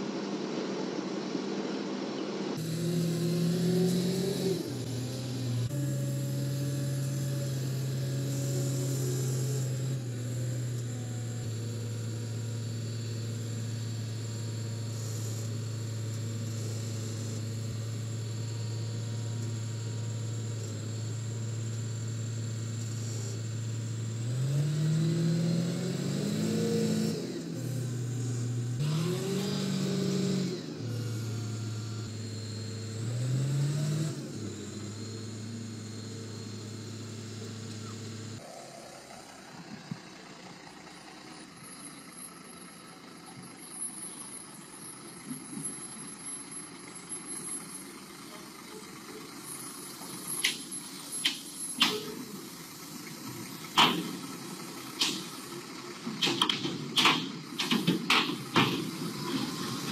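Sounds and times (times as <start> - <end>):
engine running and revving: 2.5 - 59.9.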